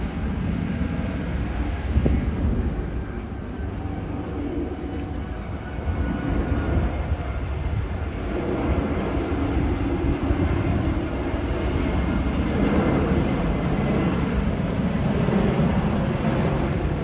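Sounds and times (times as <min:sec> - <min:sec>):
airliner landing rumble: 0:00.0 - 0:17.0.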